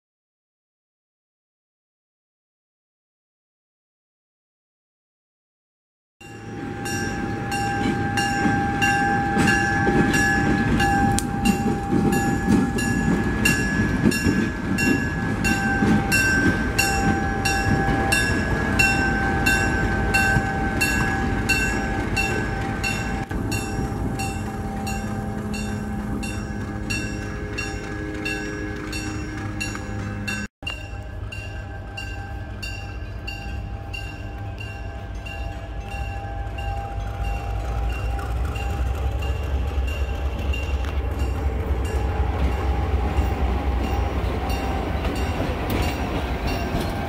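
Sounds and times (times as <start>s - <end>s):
diesel locomotive engine rumble: 6.2s - 47.0s
grade-crossing bell ringing: 6.2s - 47.0s.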